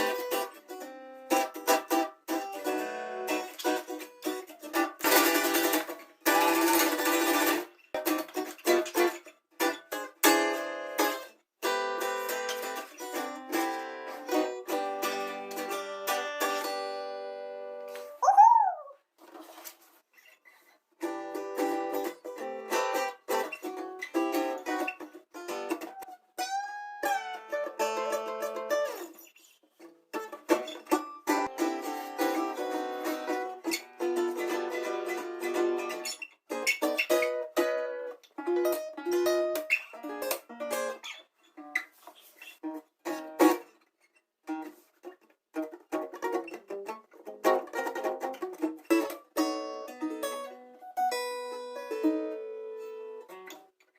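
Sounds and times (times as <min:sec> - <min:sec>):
guitar plucked notes and chords: 0:00.0 - 0:18.9, 0:21.0 - 0:29.1, 0:30.1 - 0:41.1, 0:45.5 - 0:53.6.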